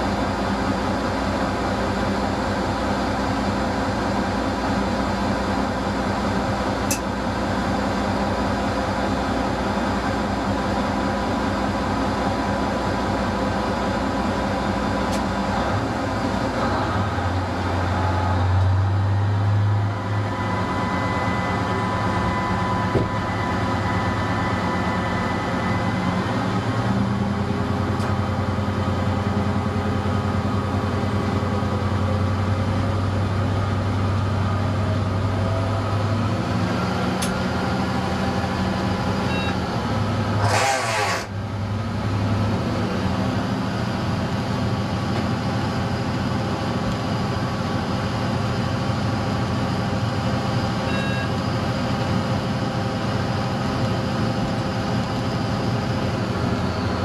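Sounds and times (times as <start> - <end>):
diesel railcar engine running: 0.0 - 57.0.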